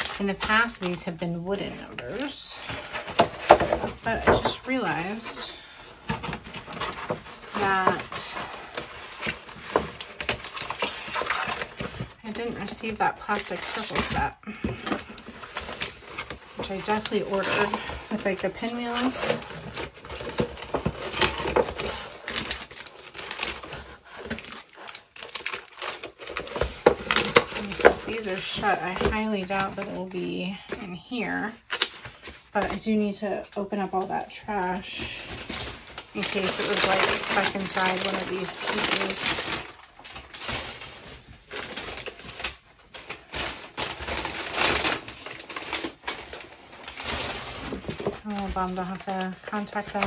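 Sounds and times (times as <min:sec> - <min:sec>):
crumpled paper rustling and crackling: 0:00.0 - 0:50.0
plastic packaging crinkling: 0:00.0 - 0:50.0.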